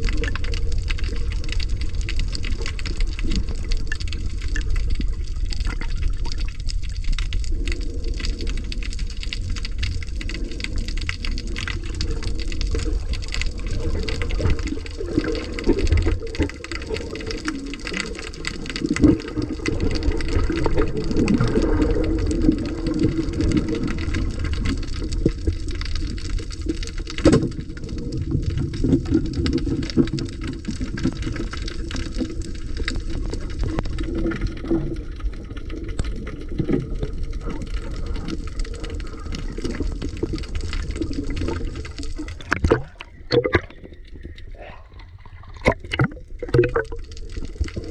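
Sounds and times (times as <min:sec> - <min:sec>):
crackling clicks: 0:00.0 - 0:44.5, 0:45.5 - 0:47.9
underwater rush and bubbles: 0:00.0 - 0:47.9.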